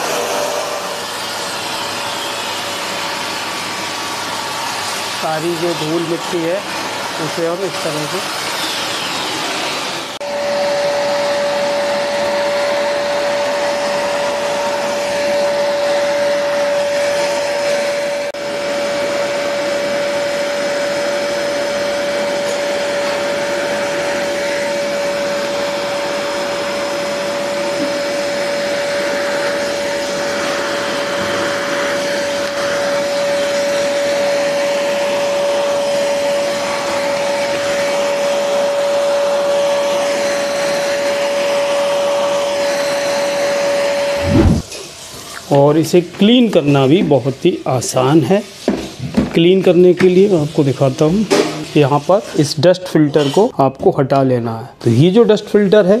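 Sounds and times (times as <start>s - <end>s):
vacuum cleaner whining: 0.0s - 53.5s.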